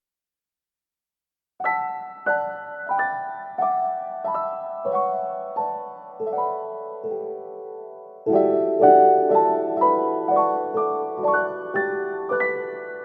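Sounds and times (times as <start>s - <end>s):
soft piano chords: 1.6s - 13.0s.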